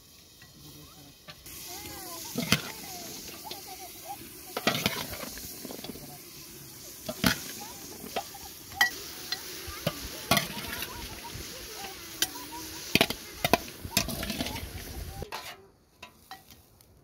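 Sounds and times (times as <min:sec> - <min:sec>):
okra sizzling in pot: 0:00.0 - 0:17.0.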